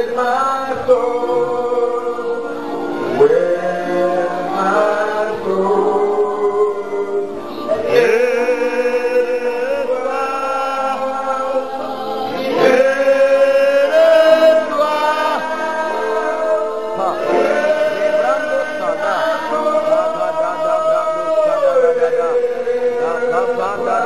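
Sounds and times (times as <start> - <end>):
congregation singing: 0.0 - 24.0.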